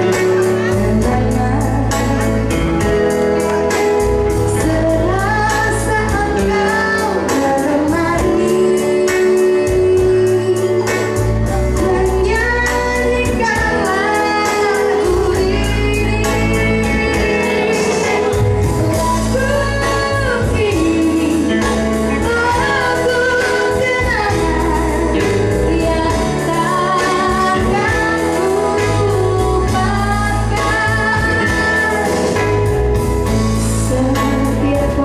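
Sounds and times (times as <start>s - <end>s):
pop song with singing: 0.0s - 35.0s.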